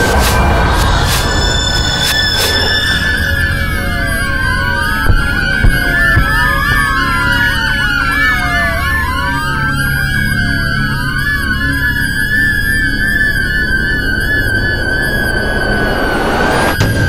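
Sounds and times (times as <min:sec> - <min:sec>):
emergency sirens wailing and yelping: 0:00.0 - 0:17.0
low rumble: 0:00.0 - 0:17.0.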